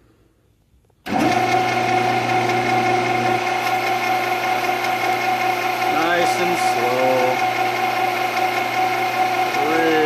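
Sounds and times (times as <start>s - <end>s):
metal lathe running with whine: 1.1s - 10.0s.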